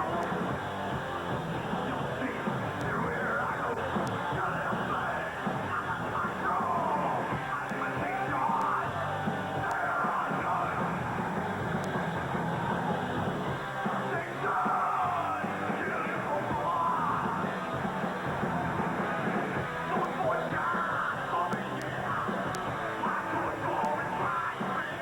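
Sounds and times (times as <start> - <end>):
shouted vocals: 0.0 - 11.3, 12.2 - 25.0
distorted guitars: 0.0 - 25.0
drums: 0.0 - 25.0.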